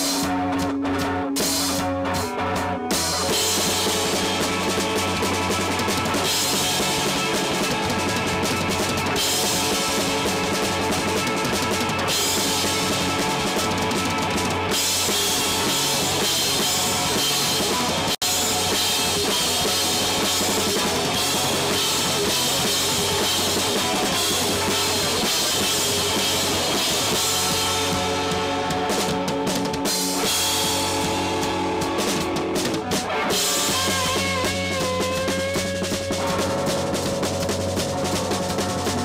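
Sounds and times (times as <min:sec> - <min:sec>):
drum kit: 0:00.0 - 0:39.0
electric guitar: 0:00.0 - 0:39.0.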